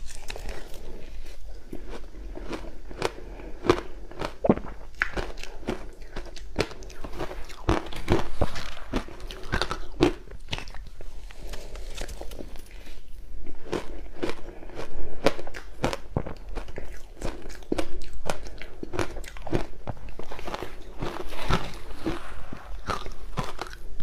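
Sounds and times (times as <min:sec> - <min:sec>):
crushed ice being chewed: 0:00.0 - 0:24.0.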